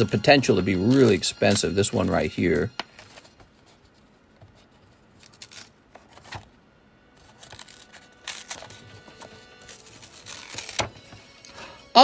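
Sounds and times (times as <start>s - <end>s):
paper crinkling and clicking: 0.0s - 6.5s, 7.2s - 11.2s
stiff paper rustling and scraping: 0.0s - 6.5s, 7.2s - 11.2s.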